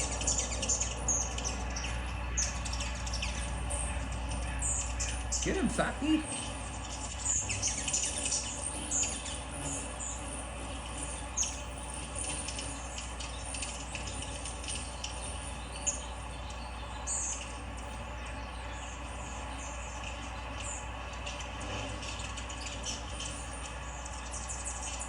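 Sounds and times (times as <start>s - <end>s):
background hum: 0.0s - 25.0s
small birds chirping: 0.0s - 25.0s.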